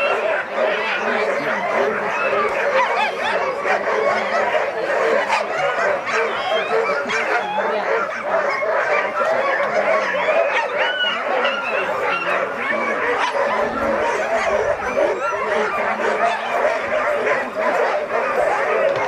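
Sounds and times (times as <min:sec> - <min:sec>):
dogs barking and howling: 0:00.0 - 0:19.0.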